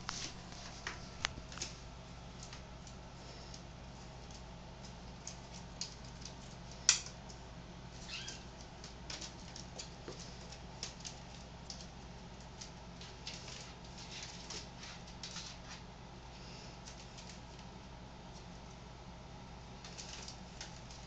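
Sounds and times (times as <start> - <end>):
kitten paws tapping and scratching: 0.0 - 18.8, 19.6 - 21.0.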